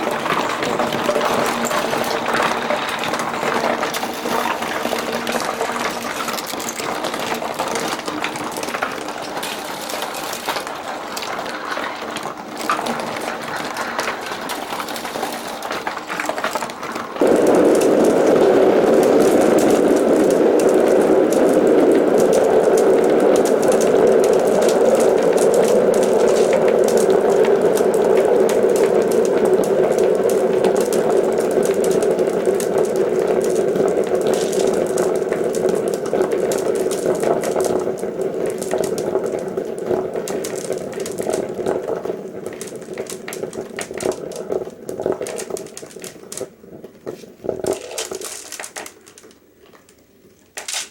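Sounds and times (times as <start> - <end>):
glass marbles rolling and clattering: 0.0 - 49.9, 50.6 - 50.9.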